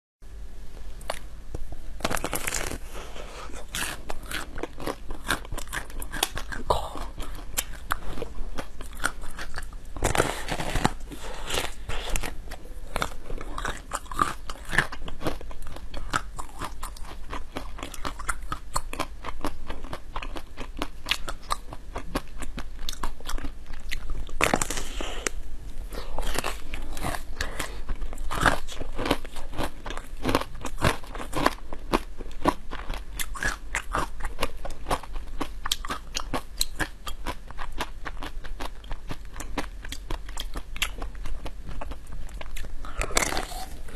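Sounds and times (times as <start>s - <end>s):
person crunching and chewing food: 2.0s - 43.9s.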